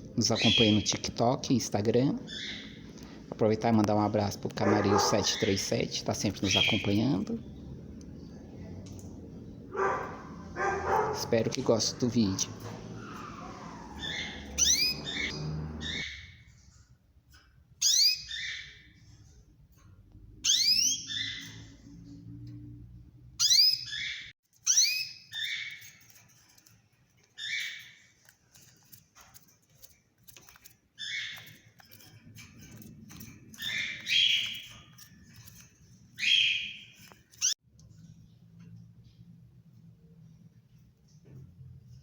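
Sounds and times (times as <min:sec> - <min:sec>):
canaries chirping: 0:00.0 - 0:37.6.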